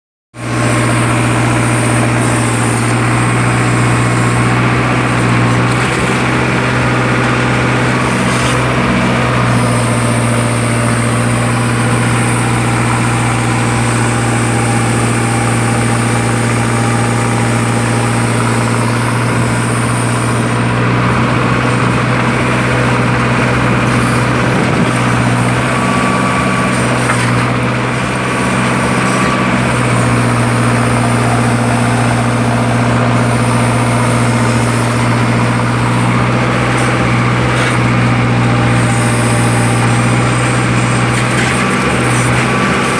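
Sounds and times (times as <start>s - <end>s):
tractor diesel engine running: 0.3s - 42.9s.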